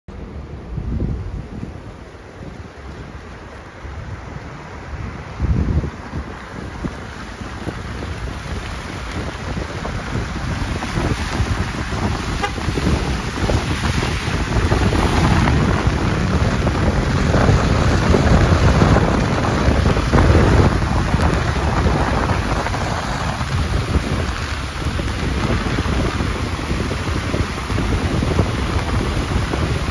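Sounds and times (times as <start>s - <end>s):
traffic on wet road: 0.1s - 29.9s
wind buffeting microphone: 0.2s - 29.9s.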